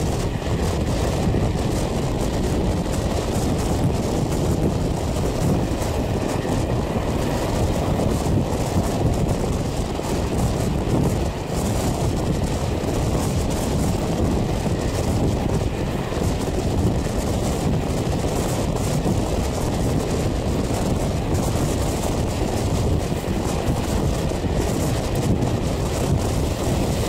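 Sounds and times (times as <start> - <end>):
train running on track: 0.0 - 27.0
wind buffeting a microphone: 0.0 - 27.0.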